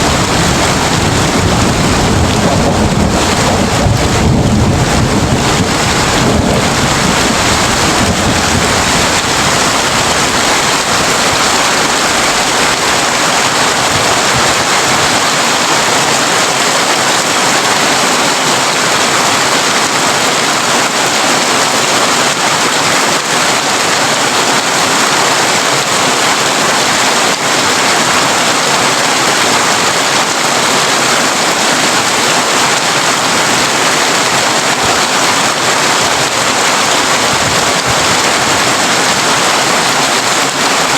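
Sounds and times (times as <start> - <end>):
rain on a tin roof: 0.0 - 40.9.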